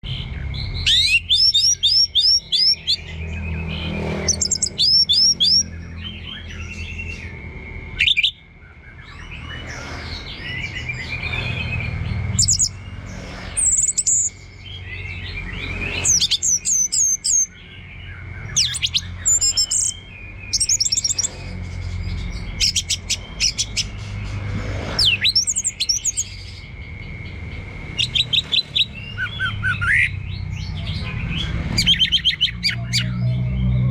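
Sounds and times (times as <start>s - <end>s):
thrush singing: 0.0s - 6.6s, 10.4s - 33.9s.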